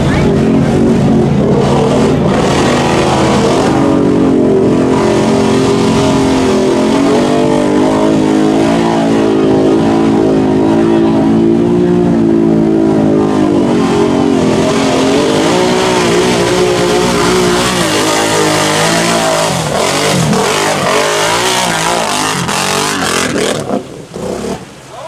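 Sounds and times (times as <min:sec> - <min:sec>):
mud and water spraying: 0:00.0 - 0:10.6, 0:12.7 - 0:25.0
atv engine revving: 0:00.0 - 0:24.9.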